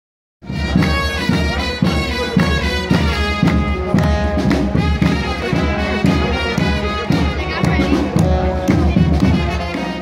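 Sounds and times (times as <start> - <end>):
brass band playing: 0.4 - 10.0
drum beat: 0.4 - 10.0.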